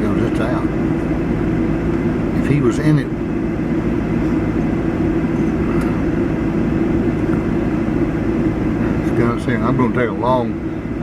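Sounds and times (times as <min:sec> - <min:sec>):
vehicle engine drone: 0:00.0 - 0:11.0.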